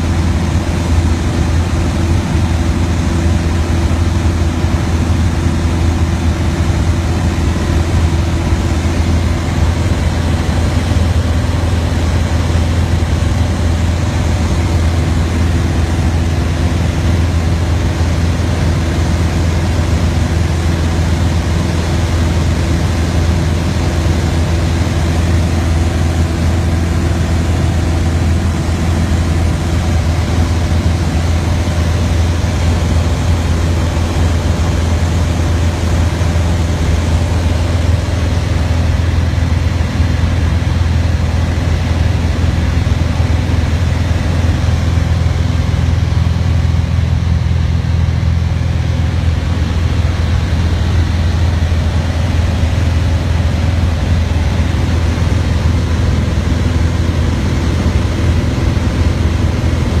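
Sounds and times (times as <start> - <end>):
propeller plane engine drone: 0.0 - 60.0.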